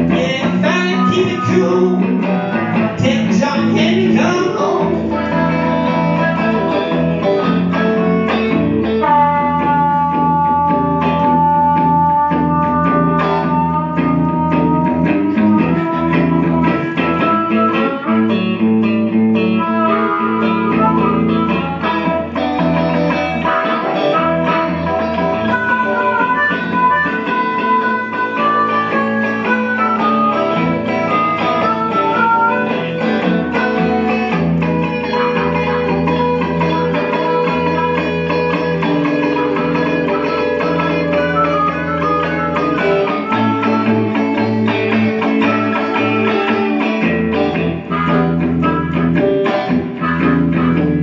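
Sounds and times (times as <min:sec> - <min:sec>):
electric blues guitar lead: 0:00.0 - 0:51.0
low accompaniment: 0:00.0 - 0:51.0.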